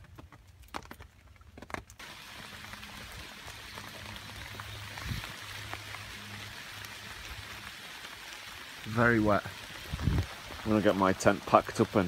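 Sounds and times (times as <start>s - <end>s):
rain falling on trees: 0.0s - 12.0s.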